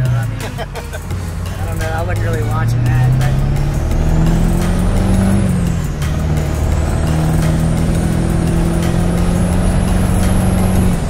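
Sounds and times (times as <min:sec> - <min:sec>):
diesel engine drone from cab: 0:00.0 - 0:11.0.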